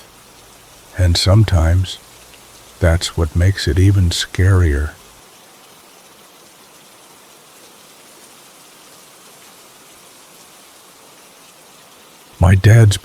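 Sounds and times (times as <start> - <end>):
rain falling on a surface: 0.0 - 13.0.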